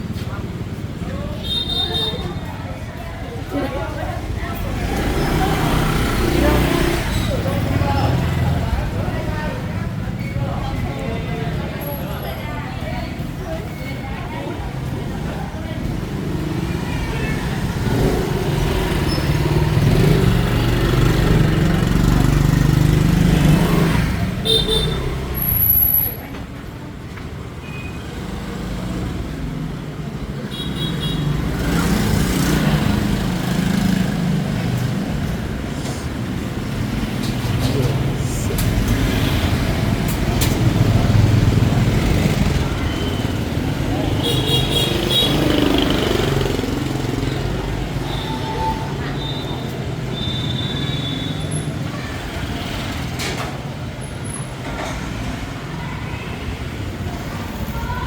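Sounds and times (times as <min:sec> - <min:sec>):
motorbikes passing: 0:00.0 - 0:58.0
traffic engines humming: 0:00.0 - 0:58.0.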